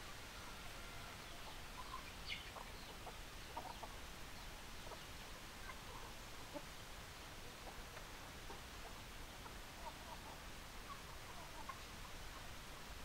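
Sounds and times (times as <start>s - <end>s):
steady background hiss: 0.0s - 13.0s
chickens clucking: 0.4s - 6.8s, 7.4s - 12.6s.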